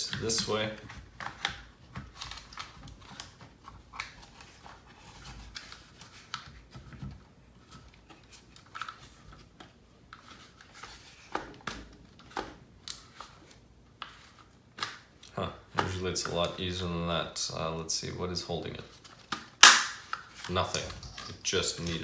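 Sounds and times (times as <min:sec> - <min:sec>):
plastic parts clicking and rubbing: 0:00.0 - 0:16.6, 0:18.9 - 0:22.0.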